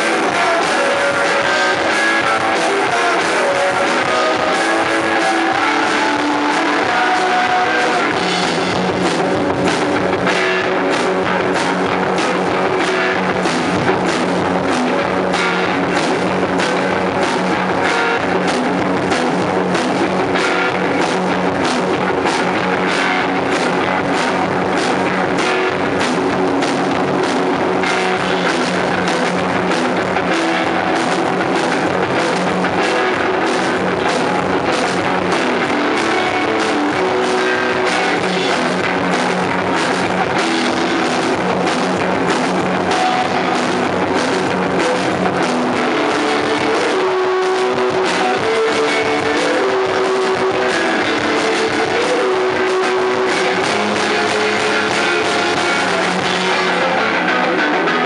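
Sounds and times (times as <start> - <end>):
driving drum kit beat: 0.0 - 58.0
electric guitar: 0.0 - 58.0.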